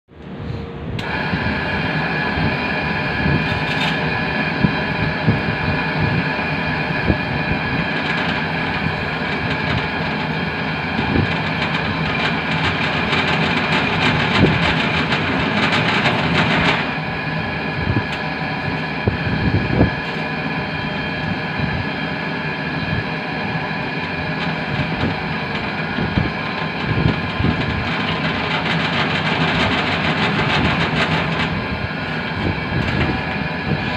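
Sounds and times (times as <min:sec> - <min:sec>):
drill press motor whine: 0:00.2 - 0:33.9.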